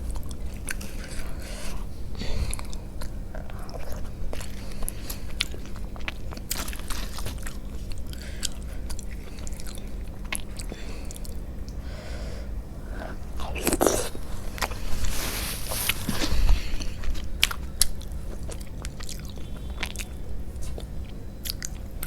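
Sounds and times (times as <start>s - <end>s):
person chewing and biting: 2.5s - 11.8s, 12.9s - 22.0s.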